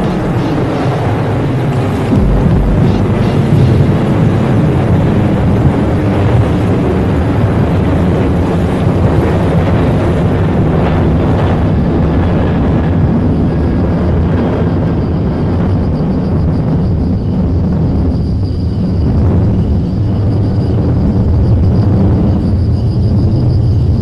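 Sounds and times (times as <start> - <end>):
deep rumbling noise: 0.0 - 24.0.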